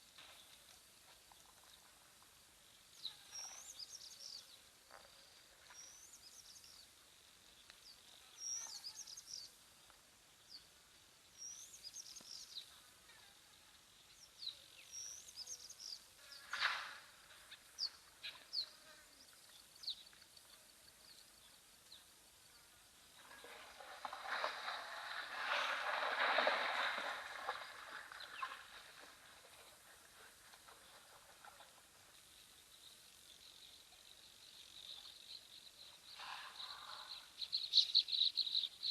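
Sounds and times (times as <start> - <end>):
faint insect tone: 0.0 - 38.9
birds chirping: 2.6 - 13.0, 13.7 - 38.9.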